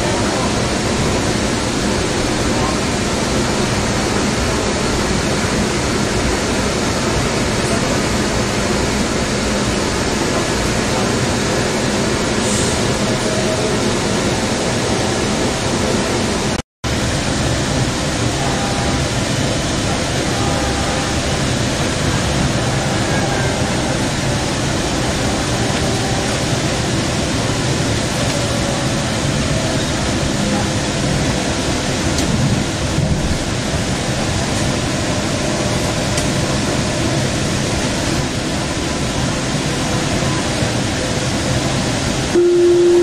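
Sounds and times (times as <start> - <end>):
light rail car rumbling: 0.0 - 43.0.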